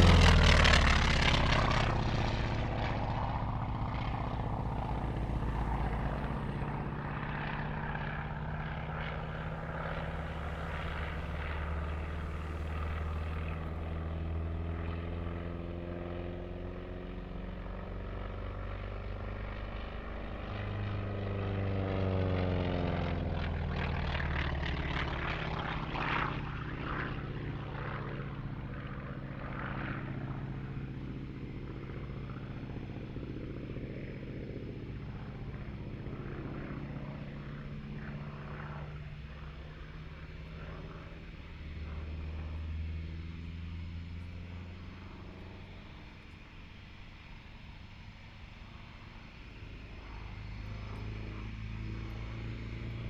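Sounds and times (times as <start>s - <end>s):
propeller aircraft engine passing: 0.0s - 53.0s.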